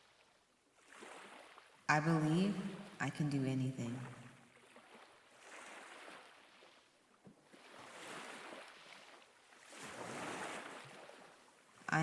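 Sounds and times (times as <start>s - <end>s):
ocean waves breaking on shore: 0.0s - 3.1s, 3.8s - 12.0s.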